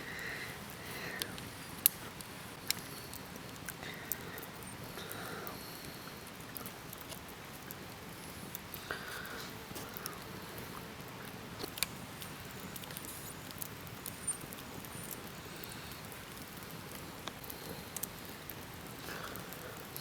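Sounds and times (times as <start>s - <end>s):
soft steady hiss: 0.0s - 20.0s.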